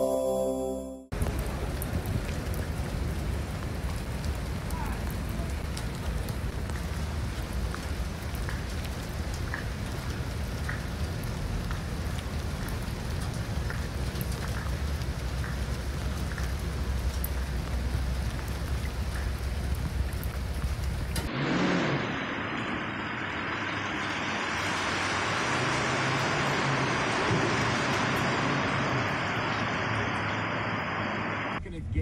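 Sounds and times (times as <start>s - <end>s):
heavy rain falling: 1.1s - 31.6s.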